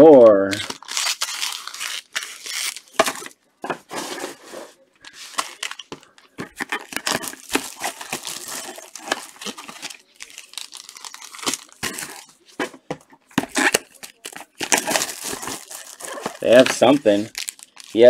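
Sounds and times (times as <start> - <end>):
cellophane wrap crinkling: 0.5 - 3.4, 5.1 - 12.4, 13.4 - 18.0.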